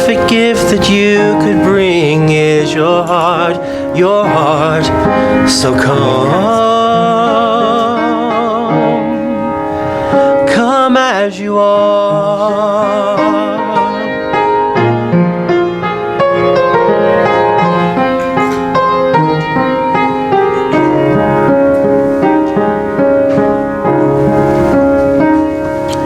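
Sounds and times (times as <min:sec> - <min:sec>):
slow piano piece: 0:00.0 - 0:26.0.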